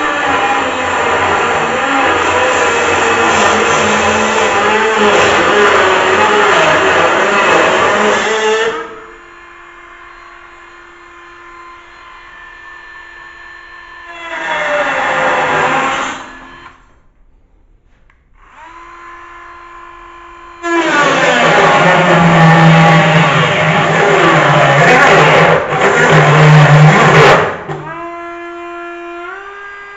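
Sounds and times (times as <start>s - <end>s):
power tool cutting sheet metal: 0.0s - 16.8s, 18.4s - 29.9s.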